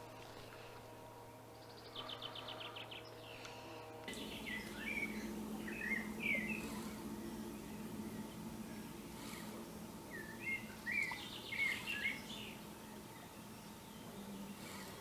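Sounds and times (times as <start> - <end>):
faint steady low hum: 0.0 - 15.0
birds chirping: 0.9 - 15.0.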